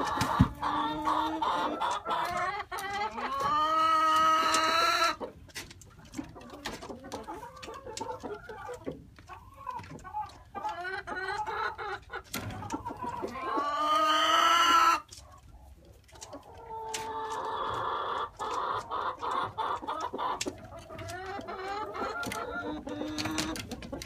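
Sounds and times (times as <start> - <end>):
clucking calls: 0.0 - 24.0.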